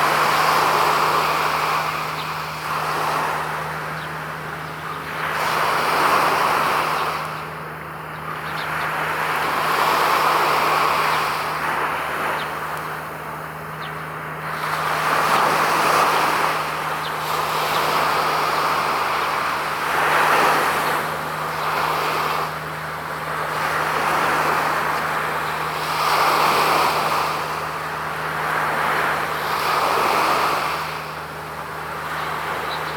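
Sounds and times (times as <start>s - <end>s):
road traffic passing: 0.0s - 32.9s
steady low hum: 0.0s - 32.9s.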